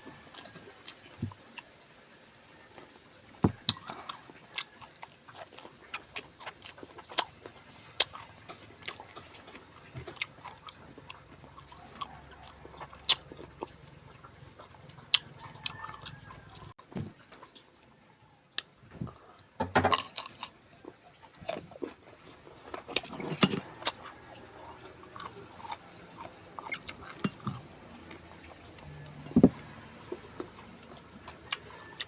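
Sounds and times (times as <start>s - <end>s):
person chewing: 2.8s - 16.8s, 18.6s - 32.0s.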